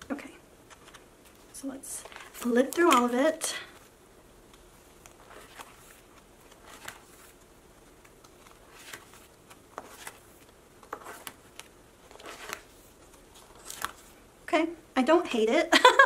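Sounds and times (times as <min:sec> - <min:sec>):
plastic pages rustling: 0:00.6 - 0:03.9, 0:04.5 - 0:14.2.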